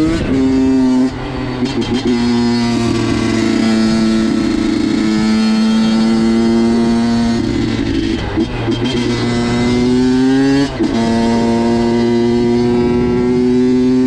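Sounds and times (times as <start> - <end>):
two-stroke engine at high revs: 0.0 - 14.0.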